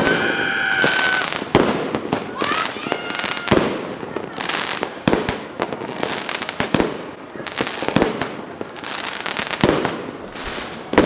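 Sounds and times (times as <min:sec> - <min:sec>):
firework bangs: 0:00.0 - 0:11.0
firework crackle: 0:00.0 - 0:11.0.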